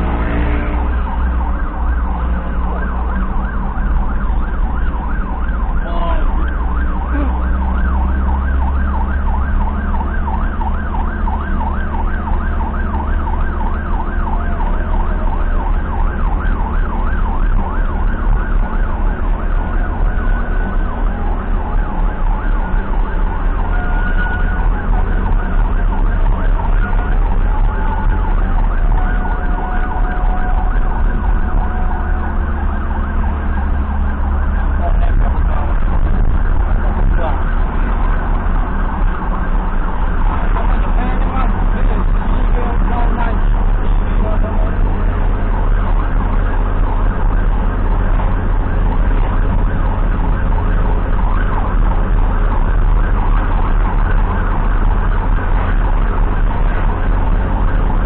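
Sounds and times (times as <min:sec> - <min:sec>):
ambulance siren yelping: 0:00.0 - 0:58.0
engine and road rumble: 0:00.0 - 0:58.0.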